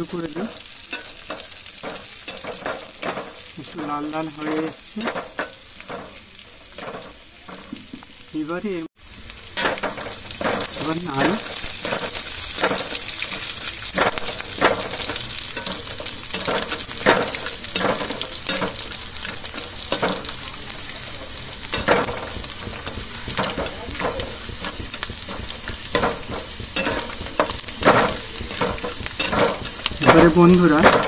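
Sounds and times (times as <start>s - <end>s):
oil sizzling: 0.0s - 31.0s
metal spatula scraping: 0.5s - 8.0s, 9.6s - 31.0s.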